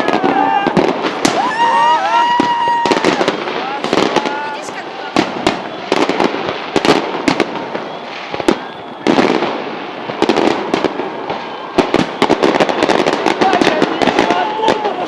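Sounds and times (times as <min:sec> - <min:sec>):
firework bangs: 0:00.0 - 0:15.0
firework crackling: 0:00.0 - 0:15.0.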